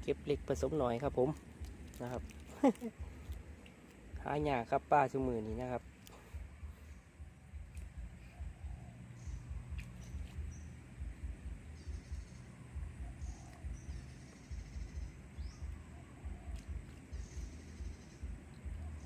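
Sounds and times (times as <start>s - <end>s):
irregular low rumble: 0.0s - 19.0s
small animal chirping trills: 0.2s - 19.0s.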